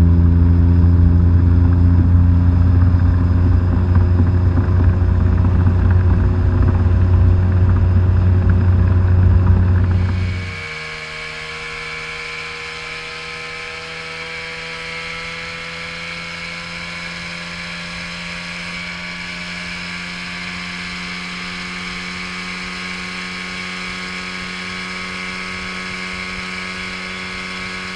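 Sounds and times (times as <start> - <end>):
outboard motor whining: 0.0 - 27.9.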